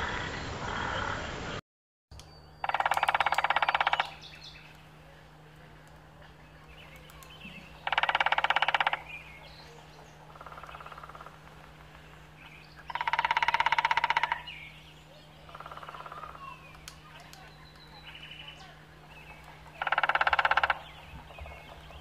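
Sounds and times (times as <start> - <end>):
woodpecker drumming on wood: 2.2 - 5.0, 5.8 - 14.8, 15.4 - 18.4, 19.1 - 22.0.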